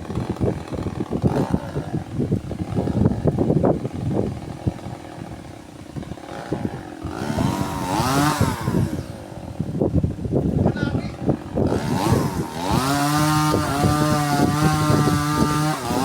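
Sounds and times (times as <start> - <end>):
chainsaw running: 0.0 - 16.0
wind buffeting microphone: 0.0 - 16.0.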